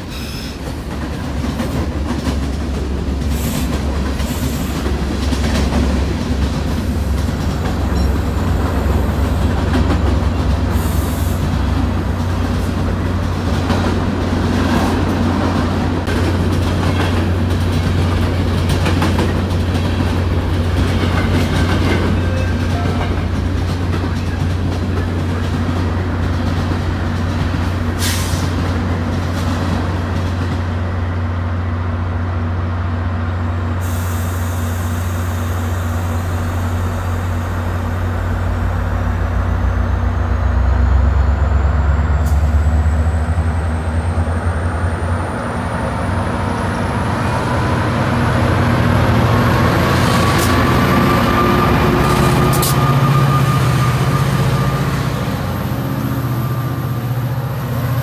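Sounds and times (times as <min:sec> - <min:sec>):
diesel locomotive engine hum: 0:00.0 - 0:58.0
rising whine of train: 0:00.0 - 0:58.0.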